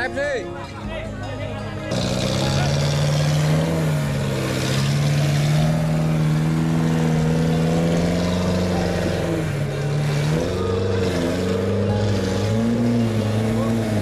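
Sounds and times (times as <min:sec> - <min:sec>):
off-road engine revving: 0:01.7 - 0:14.0.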